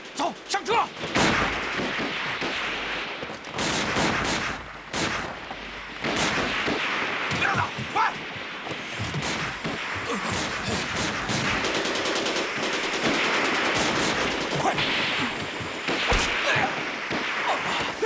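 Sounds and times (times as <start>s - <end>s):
machine-gun and rifle fire: 0.0s - 18.0s.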